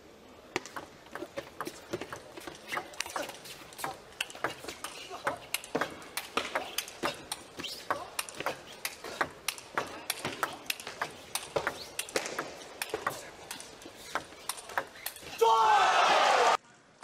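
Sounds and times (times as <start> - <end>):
table tennis ball hits: 0.6 - 15.0.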